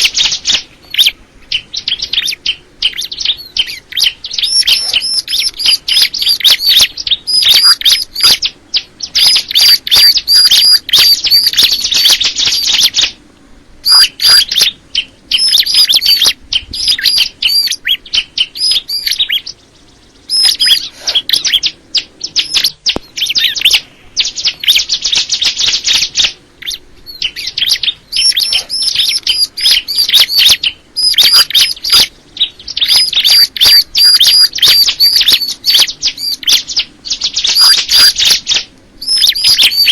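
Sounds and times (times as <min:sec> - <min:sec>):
songbird singing high chirps: 0:00.0 - 0:13.2, 0:13.8 - 0:39.9.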